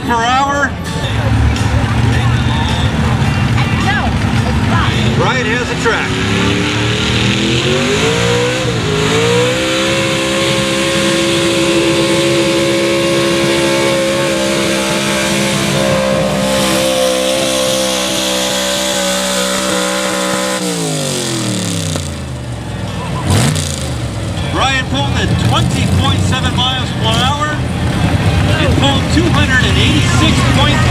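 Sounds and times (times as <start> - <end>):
truck engine revving: 0.0 - 30.9.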